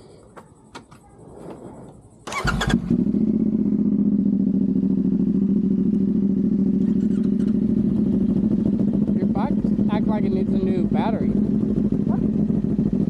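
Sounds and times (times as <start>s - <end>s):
motorcycle engine starting and idling: 0.3s - 13.0s.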